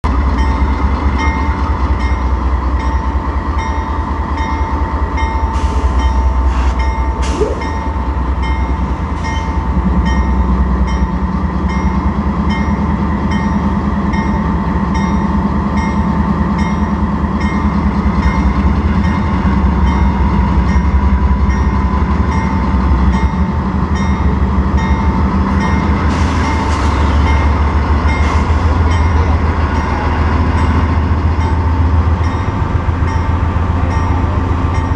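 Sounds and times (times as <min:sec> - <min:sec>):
locomotive engines rumbling: 0:00.0 - 0:34.9.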